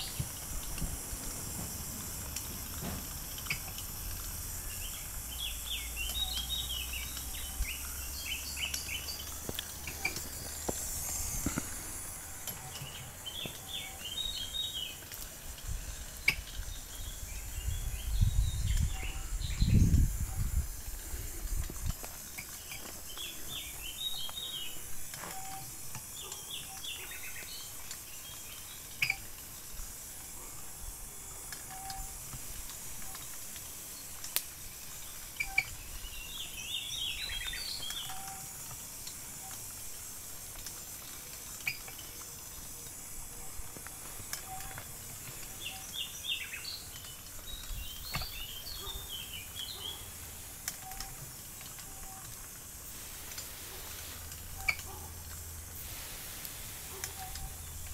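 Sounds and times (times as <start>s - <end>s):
small birds chirping: 0.0s - 55.6s, 56.8s - 57.9s
steady outdoor hiss: 0.0s - 57.9s.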